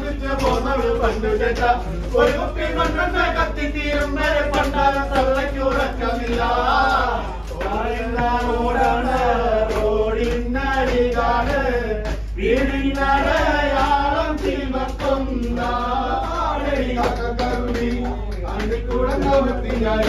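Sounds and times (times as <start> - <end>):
men singing together: 0.0 - 20.0
steady low hum: 0.0 - 20.0.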